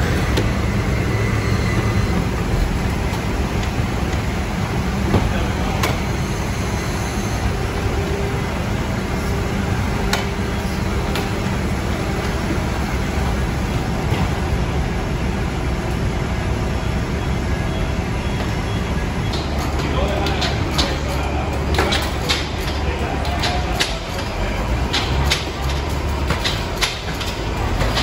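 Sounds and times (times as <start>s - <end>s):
machinery droning: 0.0s - 28.0s.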